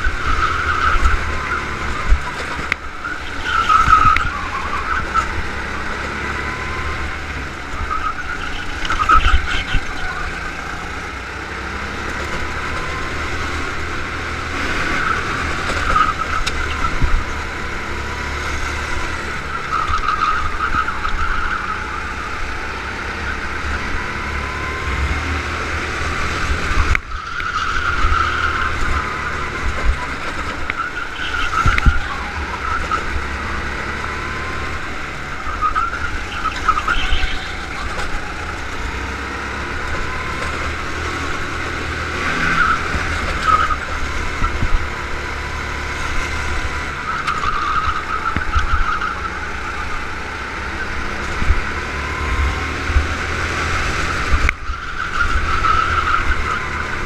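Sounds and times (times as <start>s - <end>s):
tyre squeal: 0.0s - 25.5s, 26.4s - 57.0s
go-kart engine revving: 0.0s - 57.0s.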